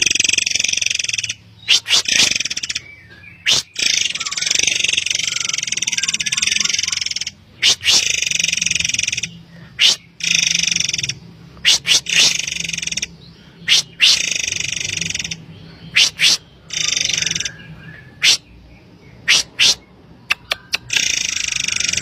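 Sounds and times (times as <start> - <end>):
harsh buzzy rattling bird calls: 0.0 - 22.0.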